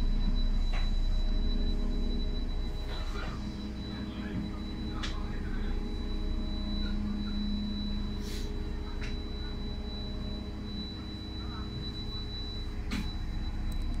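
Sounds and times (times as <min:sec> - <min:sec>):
bus rumble: 0:00.0 - 0:14.0
high-pitched whine: 0:00.0 - 0:14.0
low hum: 0:00.0 - 0:14.0.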